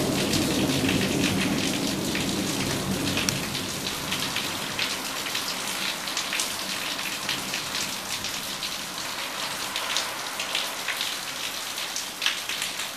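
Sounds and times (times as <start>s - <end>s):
heavy rain on standing water: 0.0s - 12.9s.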